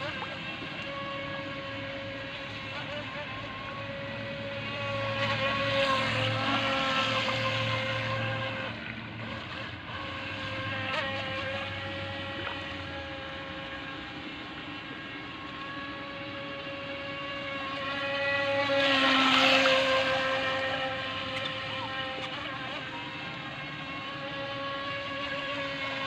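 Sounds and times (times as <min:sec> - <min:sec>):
rc boat electric motor whine: 0:00.0 - 0:26.0.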